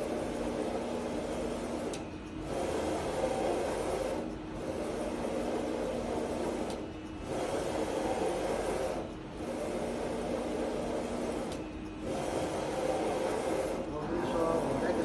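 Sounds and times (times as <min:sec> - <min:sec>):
printer carriage whirring: 0:00.0 - 0:15.0.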